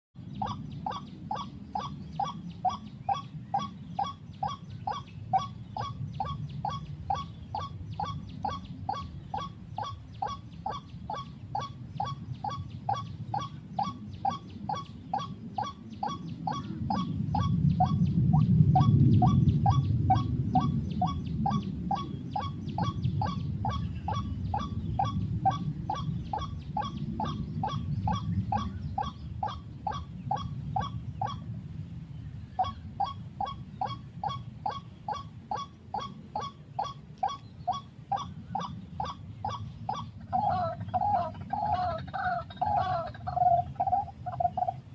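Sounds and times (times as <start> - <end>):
waterhen croaking call: 0.3 - 31.5, 32.6 - 44.9.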